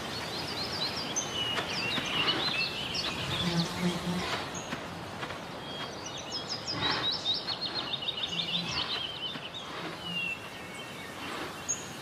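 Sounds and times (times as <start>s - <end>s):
outdoor background hiss: 0.0s - 12.0s
songbird singing descending notes: 0.0s - 12.0s.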